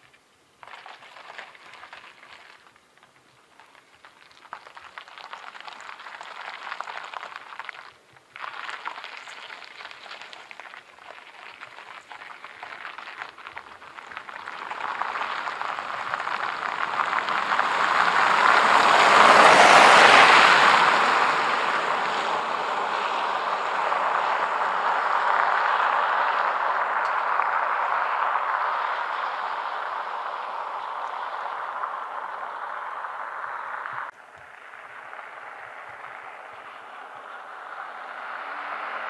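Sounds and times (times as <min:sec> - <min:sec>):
car tyres on wet road: 0:00.0 - 0:39.0.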